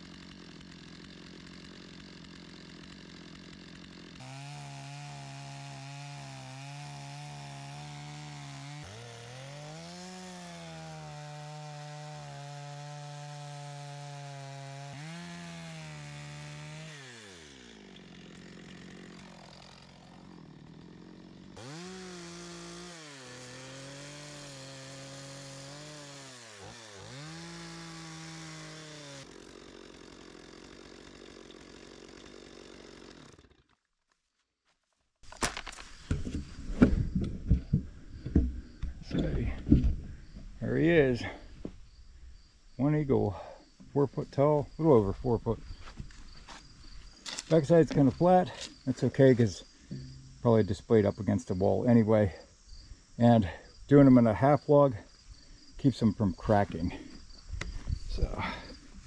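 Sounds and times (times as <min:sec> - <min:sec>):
chainsaw cutting wood: 0:00.0 - 0:34.2, 0:35.2 - 0:59.0.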